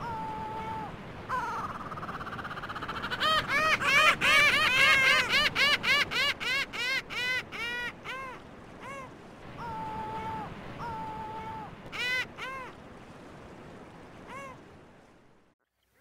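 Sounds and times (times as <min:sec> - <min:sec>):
gulls calling: 0:00.0 - 0:12.9, 0:14.0 - 0:14.8.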